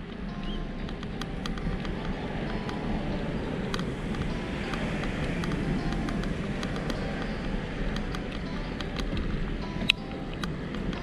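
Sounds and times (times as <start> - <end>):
bicycle tyres rolling on pavement: 0.0 - 11.0
faint clicks: 0.0 - 11.0
wind buffeting microphone: 0.0 - 11.0.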